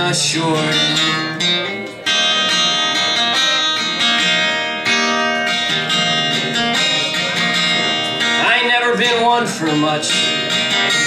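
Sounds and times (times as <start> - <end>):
live band playing: 0.0 - 11.0
strummed acoustic guitar: 0.0 - 11.0.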